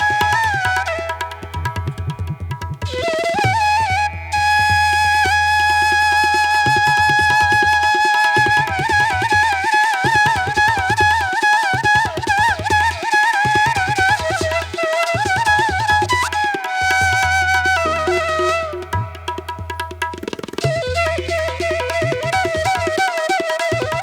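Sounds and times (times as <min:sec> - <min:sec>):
flute melody: 0:00.0 - 0:24.0.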